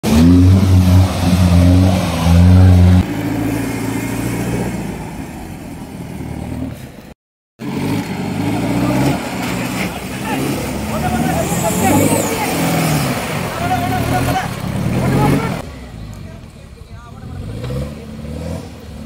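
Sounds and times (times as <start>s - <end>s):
jeep engines revving: 0.0s - 19.0s.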